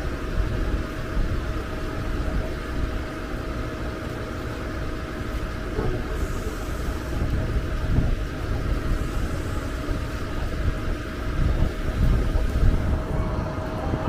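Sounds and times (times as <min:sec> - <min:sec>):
faint steady hum: 0:00.0 - 0:14.0
train wheels rumbling on rails: 0:00.0 - 0:14.0.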